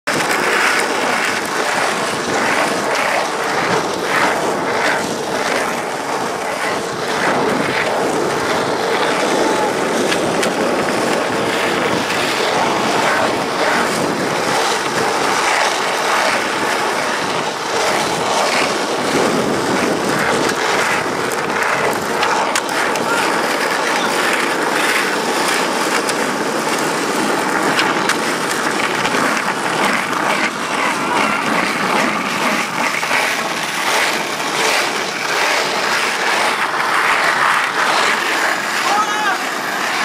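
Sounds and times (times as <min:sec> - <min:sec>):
skateboard wheels rolling on asphalt: 0:00.0 - 0:40.0.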